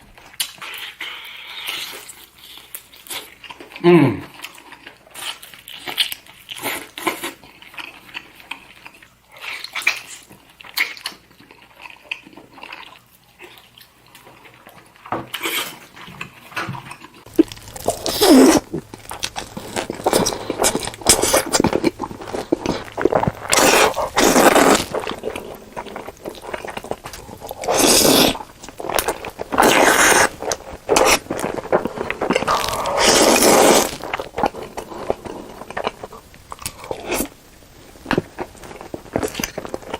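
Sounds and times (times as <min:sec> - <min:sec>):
wet chewing and mouth noises: 0:00.0 - 0:39.9.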